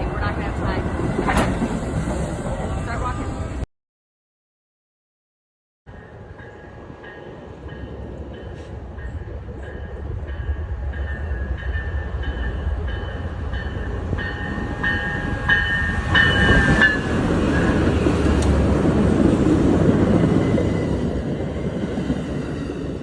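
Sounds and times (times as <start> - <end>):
train rumbling past: 0.0 - 3.7, 5.9 - 23.0.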